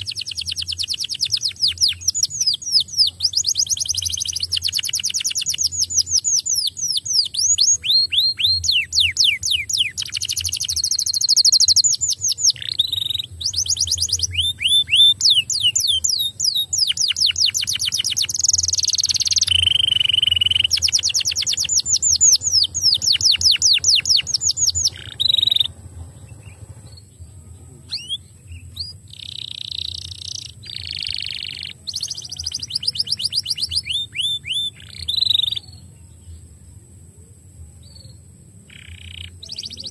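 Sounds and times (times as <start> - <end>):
canary singing trills: 0.0 - 36.9, 37.5 - 39.9.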